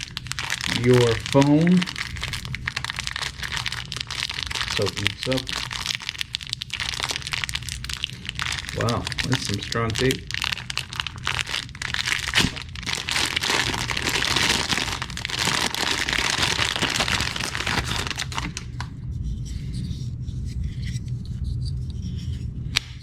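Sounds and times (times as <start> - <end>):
cardboard and plastic ripping: 0.0 - 18.9.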